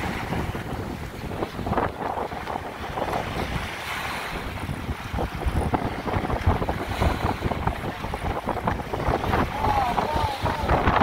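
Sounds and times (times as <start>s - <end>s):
small waves washing onto sand: 0.0s - 11.0s
wind buffeting microphone: 0.0s - 11.0s.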